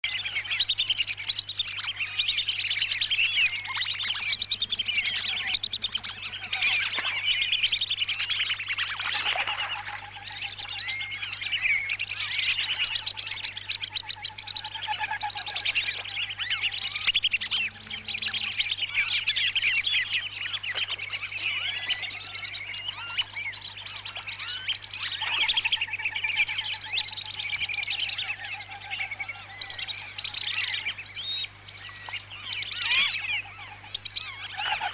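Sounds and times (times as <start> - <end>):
ducks whistling: 0.0 - 34.9
faint steady hum: 0.0 - 34.9.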